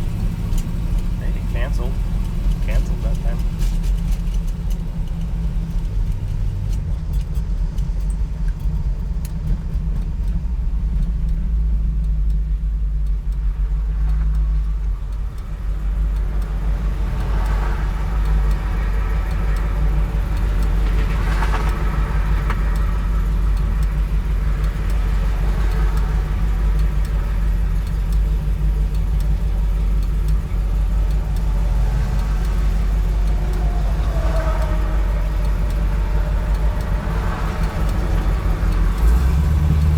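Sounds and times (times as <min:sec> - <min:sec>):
car engine running: 0:00.0 - 0:39.9
road rumble: 0:00.0 - 0:39.9.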